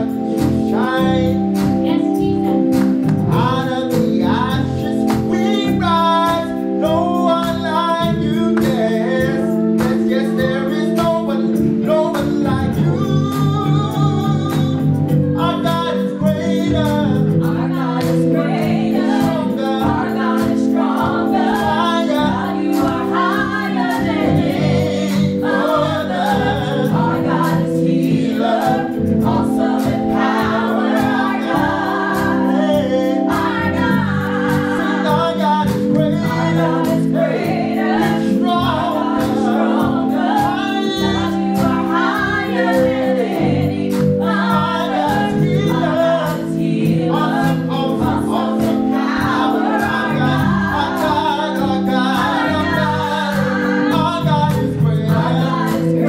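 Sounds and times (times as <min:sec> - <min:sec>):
man singing gospel: 0:00.0 - 0:56.0
organ chords: 0:00.0 - 0:56.0.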